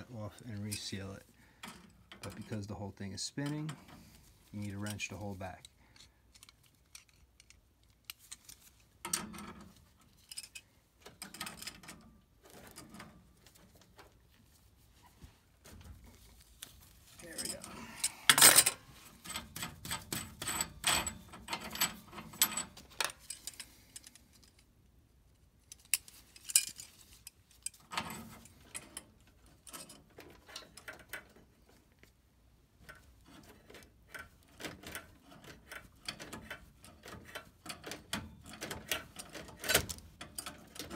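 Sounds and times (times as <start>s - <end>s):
wrenches clinking on metal pipe: 0.0s - 13.3s, 17.2s - 24.6s, 25.7s - 31.5s, 32.8s - 40.9s.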